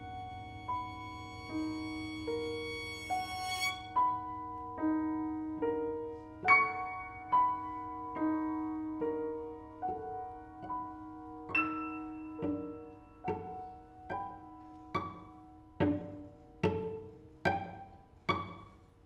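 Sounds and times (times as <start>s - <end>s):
cello and piano playing: 0.0s - 19.0s.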